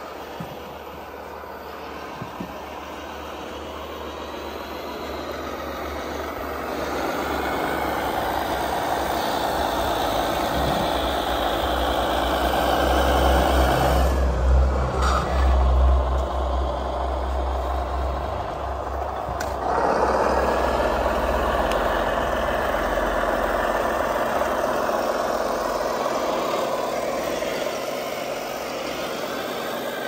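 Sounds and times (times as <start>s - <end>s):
model truck engine: 0.0s - 30.0s.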